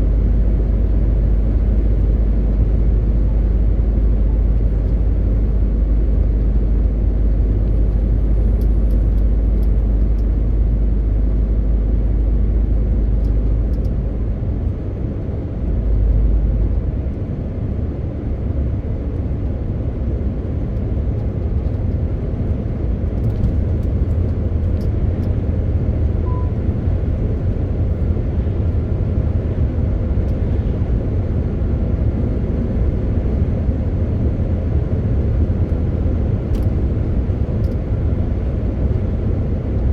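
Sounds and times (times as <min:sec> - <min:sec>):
truck diesel engine droning: 0:00.0 - 0:14.3, 0:22.2 - 0:39.8
road noise: 0:00.0 - 0:39.9.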